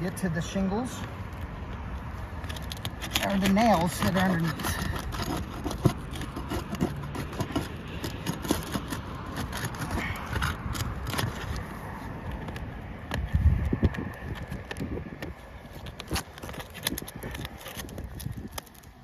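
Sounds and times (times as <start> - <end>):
shingles crackling and scraping: 0.0 - 19.0.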